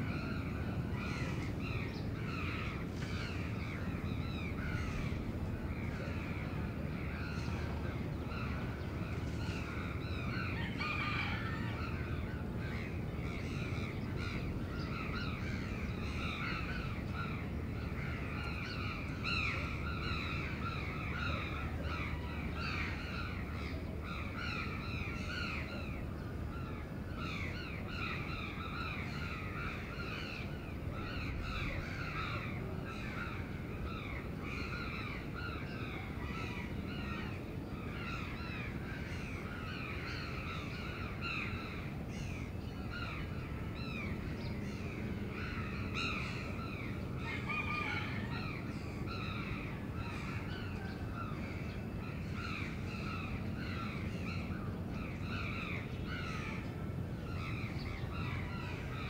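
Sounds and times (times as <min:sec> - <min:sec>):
low city rumble: 0:00.0 - 0:59.0.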